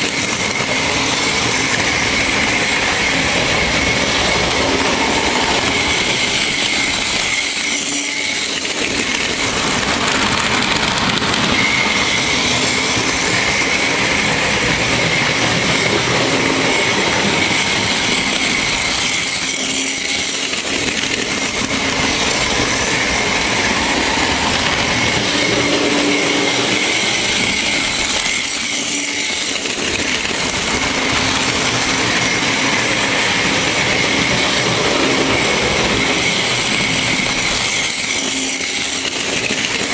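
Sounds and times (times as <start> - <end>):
model train motor whine: 0.0 - 39.9
wheel and rail noise: 0.0 - 39.9.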